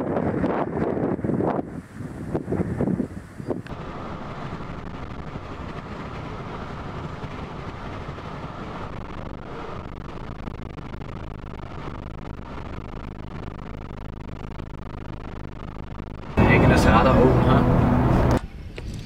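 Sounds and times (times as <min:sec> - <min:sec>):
car interior road rumble: 0:01.8 - 0:18.4.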